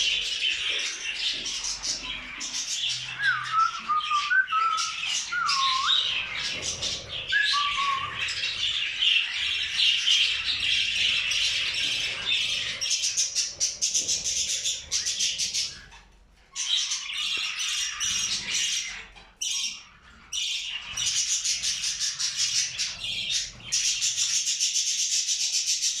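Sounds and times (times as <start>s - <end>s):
budgerigars chattering and warbling: 0.0s - 26.0s.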